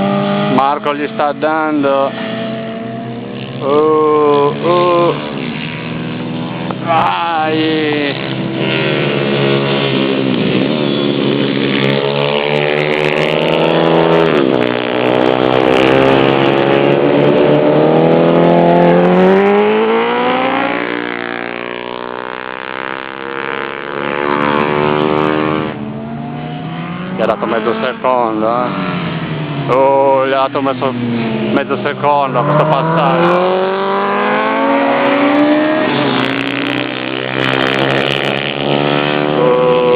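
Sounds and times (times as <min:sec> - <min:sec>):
motorbike engines revving: 0:00.0 - 0:39.9.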